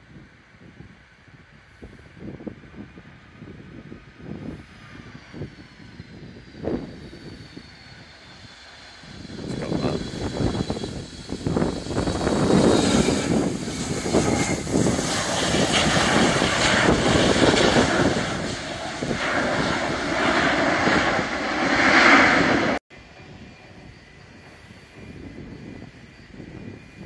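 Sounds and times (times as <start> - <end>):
jet engine roar: 0.5 - 27.0.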